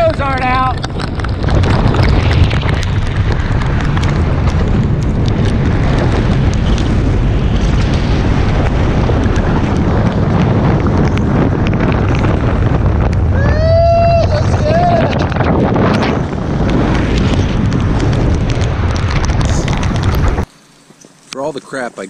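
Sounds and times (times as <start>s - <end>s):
wind rush on microphone: 0.0s - 20.5s.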